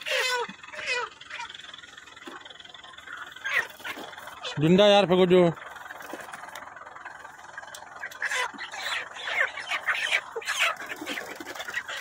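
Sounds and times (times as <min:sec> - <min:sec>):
chickens squawking and cackling: 0:00.0 - 0:12.0.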